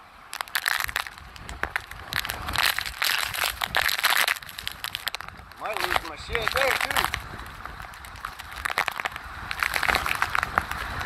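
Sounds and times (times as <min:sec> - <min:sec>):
wind rumbling on microphone: 0:00.0 - 0:11.0
rain pelting plastic case: 0:00.4 - 0:11.0.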